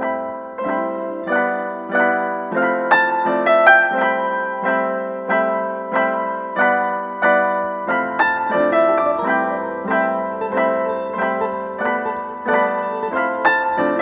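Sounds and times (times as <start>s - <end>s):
solo piano melody: 0.0s - 14.0s.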